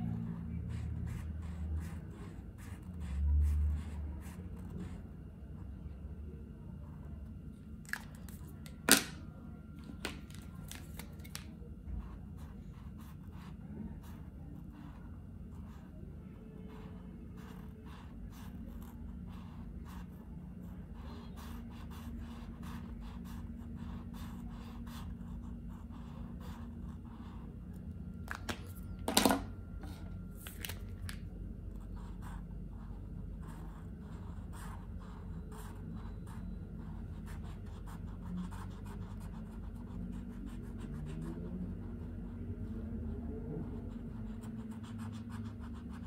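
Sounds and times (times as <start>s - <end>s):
marker scratching across paper: 0.0s - 5.0s, 9.9s - 15.9s, 16.6s - 29.0s, 29.8s - 46.0s.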